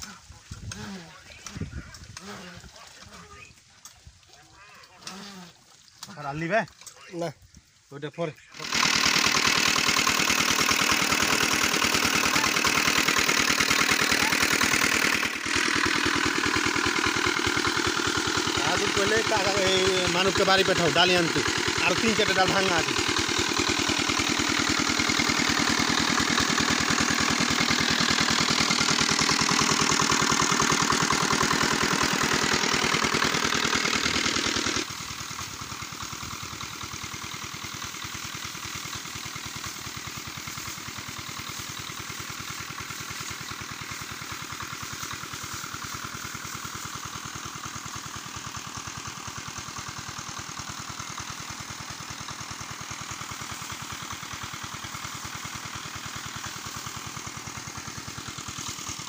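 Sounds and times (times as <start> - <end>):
diesel engine chugging: 0.0 - 59.0.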